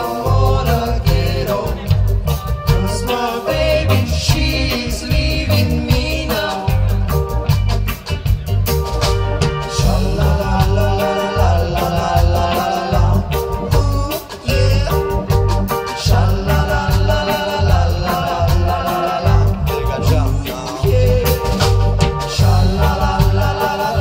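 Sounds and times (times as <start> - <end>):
heavy bass line: 0.0 - 24.0
ska band playing live: 0.0 - 24.0
steady drum beat: 0.0 - 24.0.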